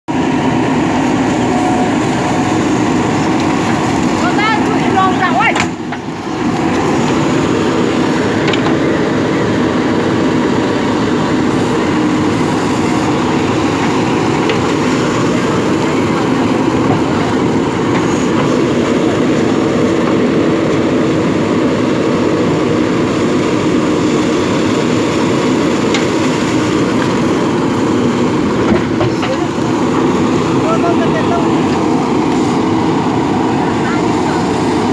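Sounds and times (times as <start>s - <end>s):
diesel engine running under load: 0.1s - 34.9s.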